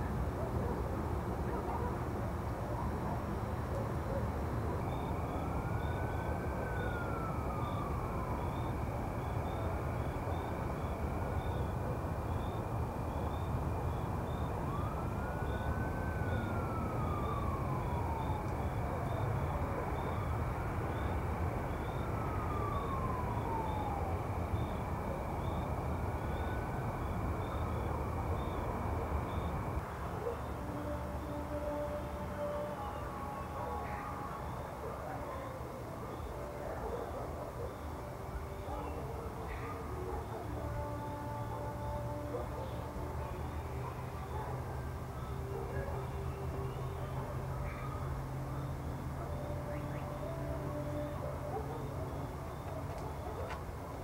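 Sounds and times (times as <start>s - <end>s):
city traffic hum: 0.0s - 54.0s
distant siren wailing: 0.0s - 54.0s.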